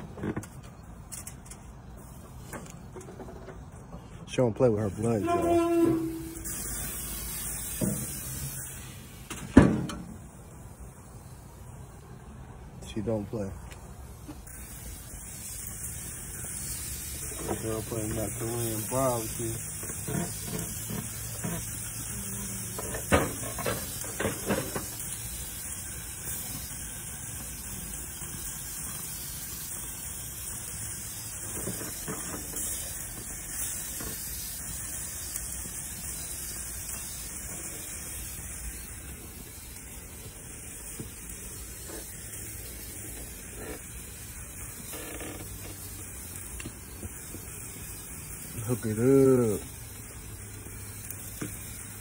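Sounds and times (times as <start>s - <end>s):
meat sizzling on a grill: 4.3s - 52.0s.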